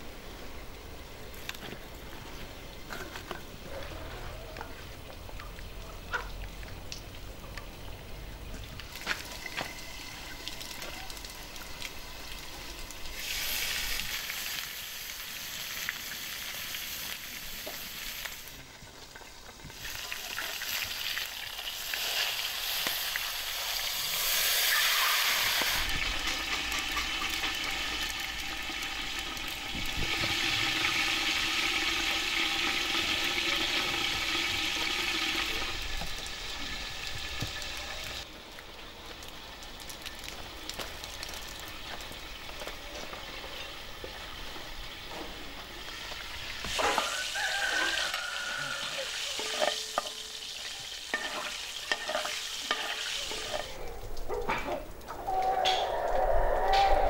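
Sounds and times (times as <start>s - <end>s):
fat sizzling in a pot: 8.9s - 54.8s.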